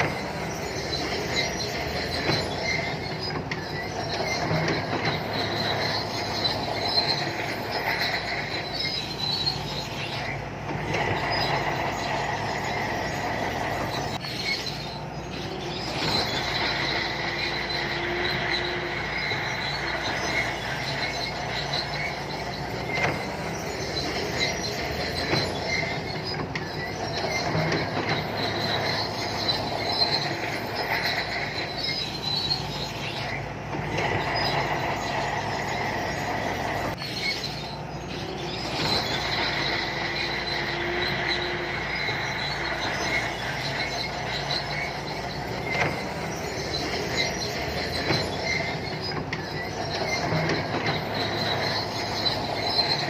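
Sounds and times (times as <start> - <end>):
bulldozer diesel engine running: 0.0 - 53.0
steel tracks squealing and clanking: 0.0 - 53.0.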